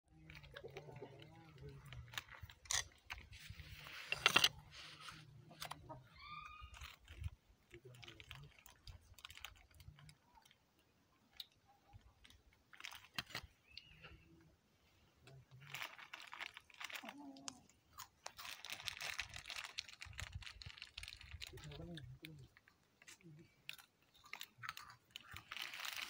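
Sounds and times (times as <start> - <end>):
rabbits chewing stems: 0.1 - 10.6, 15.3 - 26.0
rustle: 0.2 - 10.2, 14.9 - 26.0.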